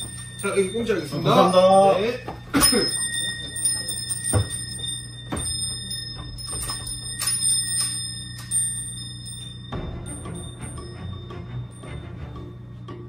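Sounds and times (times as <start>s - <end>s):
high ringing tones: 0.0s - 13.0s
low steady hum: 0.0s - 13.0s.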